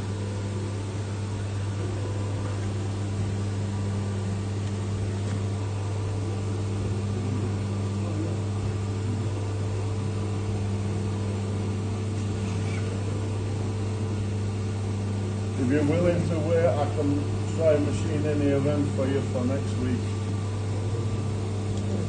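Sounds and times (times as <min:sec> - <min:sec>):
milling machine humming: 0:00.0 - 0:22.0.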